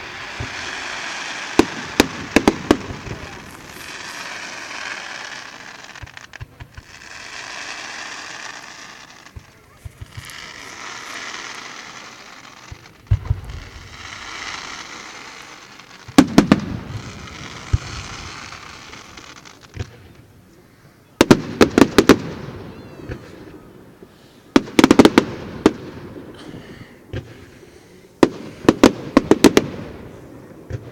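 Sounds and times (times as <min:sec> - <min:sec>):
fireworks sharp bangs: 0:00.0 - 0:20.2, 0:21.2 - 0:23.6, 0:24.5 - 0:27.6, 0:28.2 - 0:30.9
fireworks hissing and crackling: 0:00.0 - 0:30.9.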